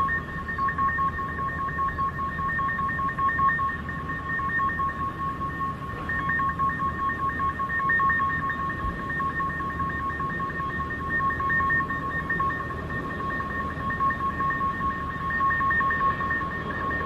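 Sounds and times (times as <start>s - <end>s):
two-note electronic tone with flutter: 0.0s - 17.0s.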